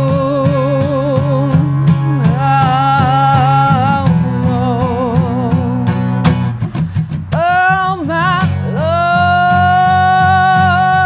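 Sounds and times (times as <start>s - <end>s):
person singing: 0.0s - 6.0s, 7.3s - 11.0s
acoustic guitar strumming: 0.0s - 11.0s.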